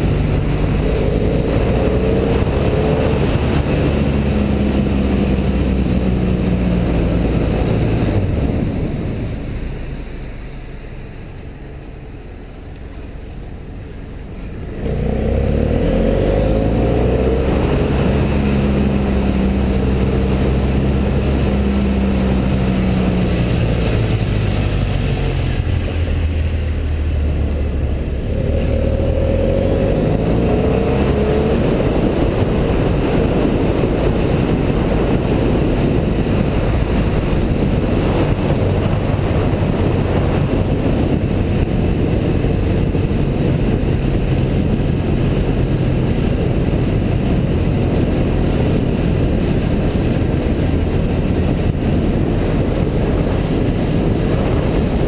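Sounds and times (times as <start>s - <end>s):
constant rushing noise: 0.0s - 55.0s
motorcycle engine running: 0.0s - 55.0s.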